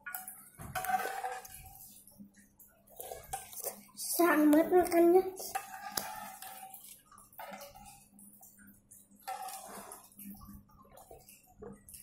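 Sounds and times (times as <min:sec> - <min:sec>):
eating and drinking sounds: 0:00.0 - 0:12.0.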